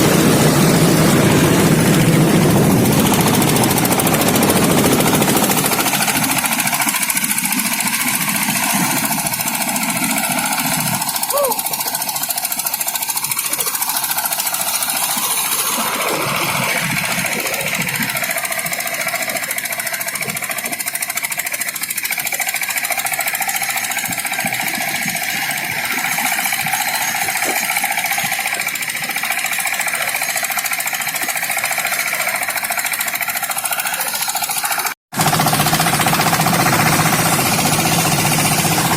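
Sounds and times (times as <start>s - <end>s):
high steady whine: 0.0s - 38.9s
threshing machine running: 0.0s - 38.9s.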